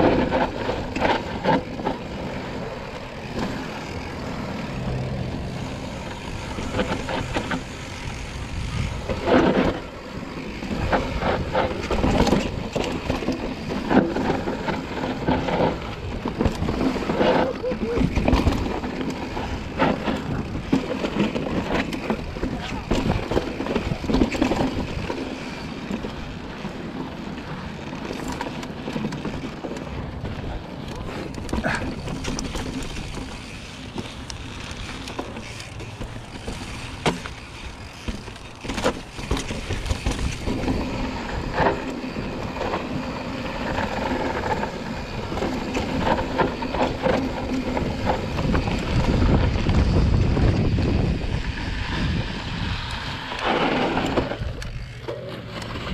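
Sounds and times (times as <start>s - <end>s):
wind rumble on microphone: 0.0s - 34.6s, 39.0s - 55.9s
bike knocking and rattling: 0.0s - 55.9s
bike tyres on dirt and gravel: 0.0s - 55.9s.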